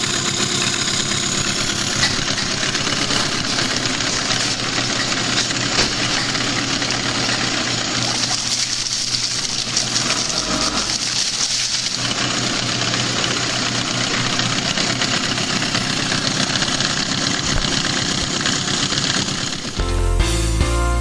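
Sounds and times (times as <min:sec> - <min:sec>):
propeller churning water: 0:00.0 - 0:19.8
outboard motor running: 0:00.0 - 0:20.4.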